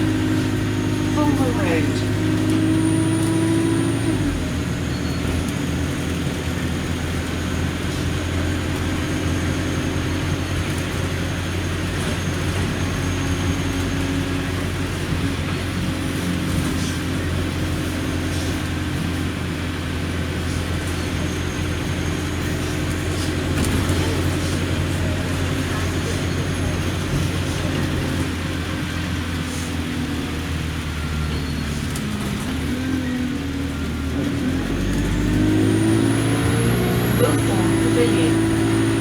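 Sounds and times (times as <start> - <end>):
bus engine drone: 0.0 - 39.0.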